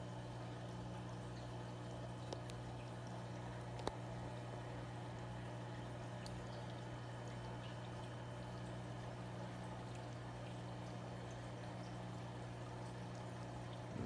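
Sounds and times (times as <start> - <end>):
aquarium pump humming: 0.0 - 14.0
water bubbling and trickling: 0.0 - 14.0.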